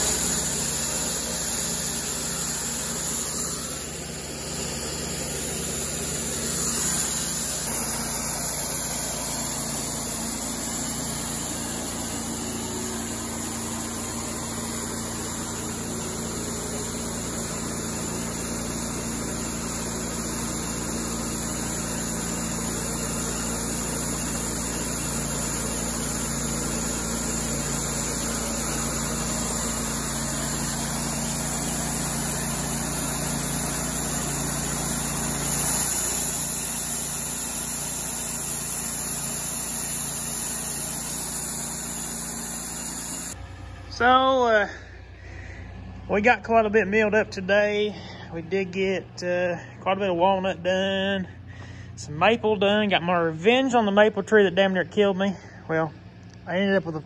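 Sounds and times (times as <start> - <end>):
bandsaw sawmill engine humming: 0.0 - 57.0.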